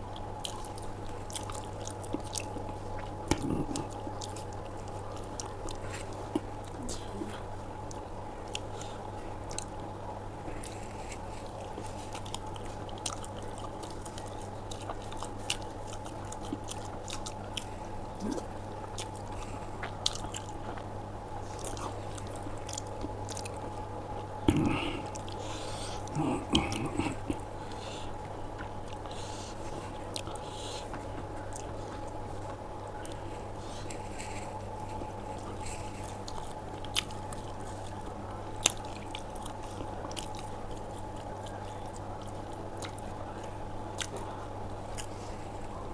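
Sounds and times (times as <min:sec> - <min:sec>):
bites: 0:00.2 - 0:06.8, 0:10.6 - 0:23.8, 0:24.4 - 0:44.2
person chewing: 0:00.2 - 0:09.8, 0:10.5 - 0:45.7.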